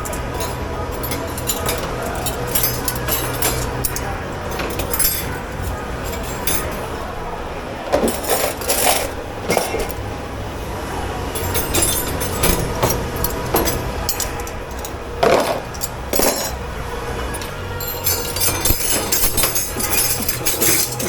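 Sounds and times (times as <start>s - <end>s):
dishes and cutlery clinking: 0.0s - 7.2s, 7.8s - 10.1s, 11.2s - 21.0s
steady low hum: 0.0s - 21.0s.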